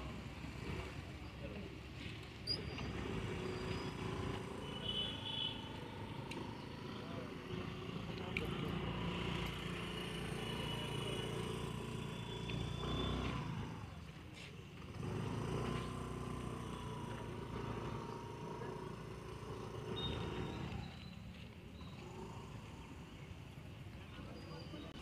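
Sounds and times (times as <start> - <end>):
scooter engine revving: 0.0 - 23.9.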